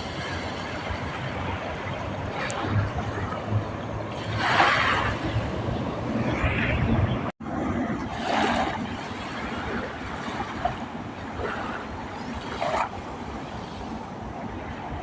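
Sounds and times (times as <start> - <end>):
waves washing against shore: 0.0 - 15.0.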